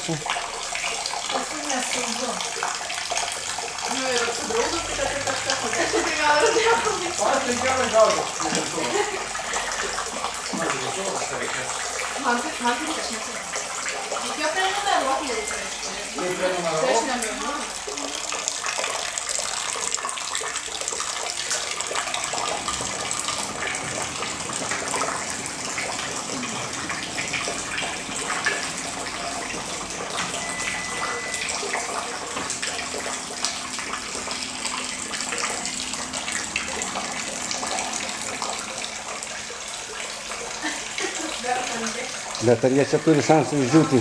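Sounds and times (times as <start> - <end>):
water trickling into plastic bucket: 0.0 - 44.0.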